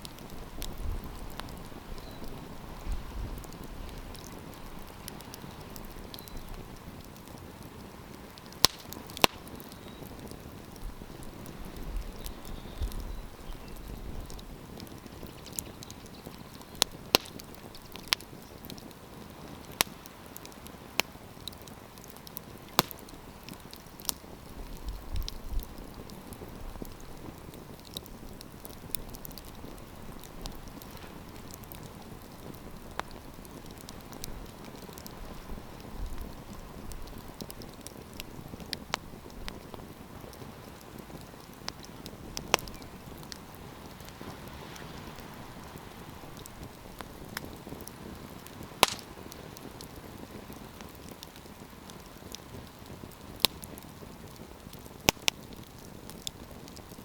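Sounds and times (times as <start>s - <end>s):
wind rumble on microphone: 0.0s - 23.6s, 24.2s - 57.0s
campfire crackling: 0.0s - 57.0s
fire popping: 0.0s - 57.0s.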